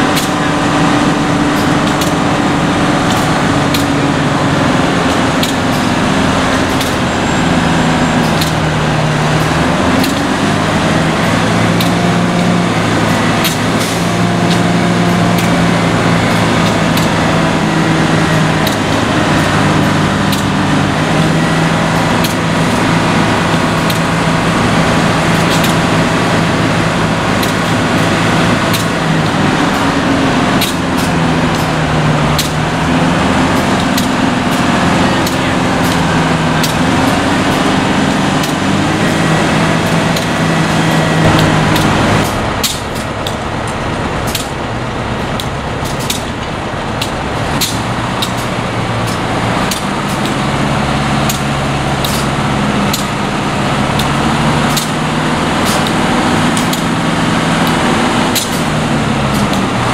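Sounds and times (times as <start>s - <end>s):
crane diesel engine under load: 0.0s - 59.9s.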